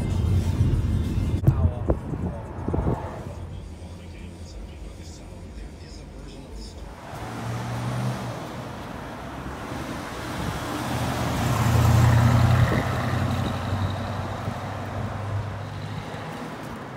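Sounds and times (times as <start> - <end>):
car engine rumble passing by: 0.0 - 16.9.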